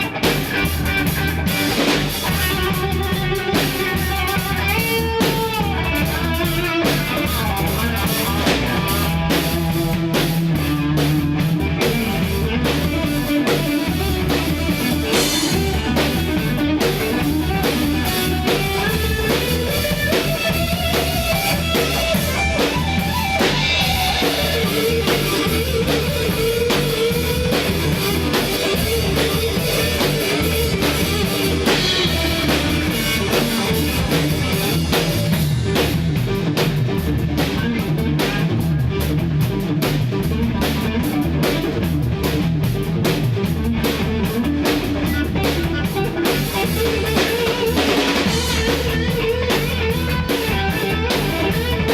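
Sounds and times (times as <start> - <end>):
drum kit beat: 0.0 - 51.9
rock guitar: 0.0 - 51.9.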